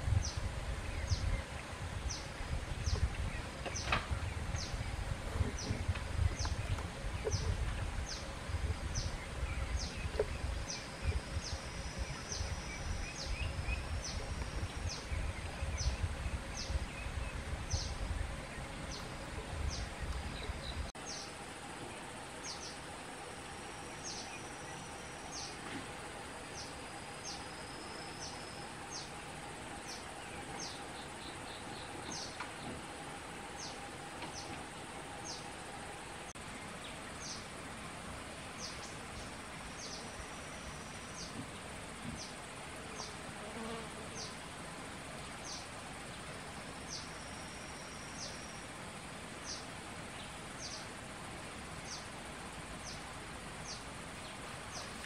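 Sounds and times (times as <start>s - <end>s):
faint steady drone: 0.0s - 55.0s.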